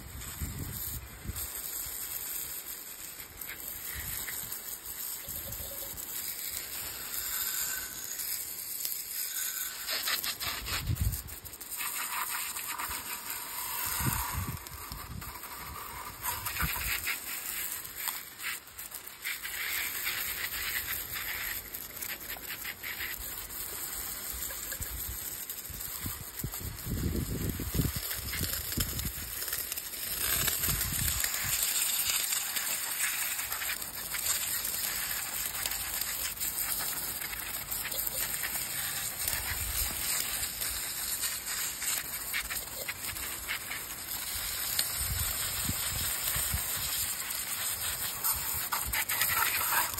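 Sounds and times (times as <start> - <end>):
water jet hissing on metal: 0.0 - 49.9.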